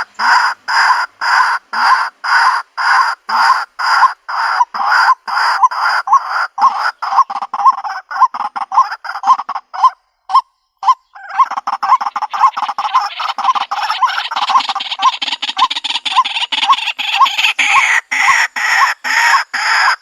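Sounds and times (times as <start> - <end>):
waterhen harsh croaking calls: 0.0 - 20.0.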